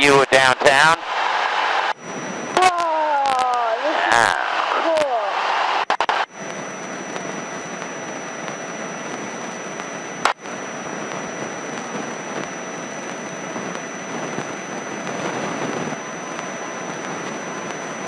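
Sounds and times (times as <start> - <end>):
airplane cabin noise: 0.0 - 18.0
faint high whine: 0.0 - 18.0.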